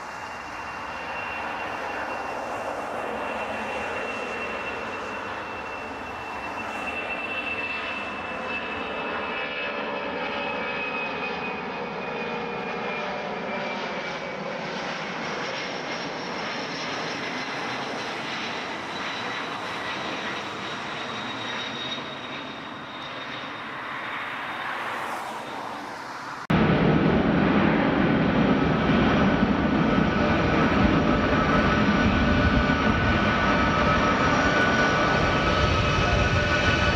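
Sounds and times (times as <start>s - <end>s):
jet engines roaring and whining: 0.0s - 36.9s.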